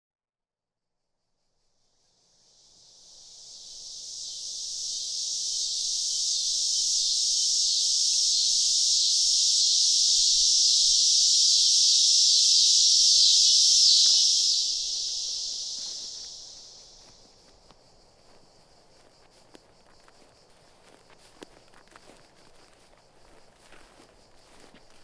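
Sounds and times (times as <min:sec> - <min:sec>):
cicadas buzzing: 0:01.4 - 0:25.0.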